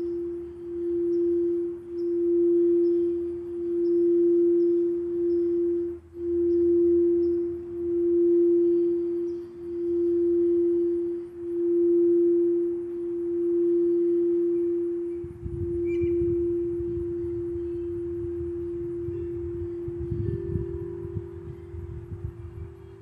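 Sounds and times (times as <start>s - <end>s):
higher singing bowl tone: 0.0s - 23.0s
low rumble: 0.0s - 23.0s
singing bowl ringing: 0.0s - 23.0s.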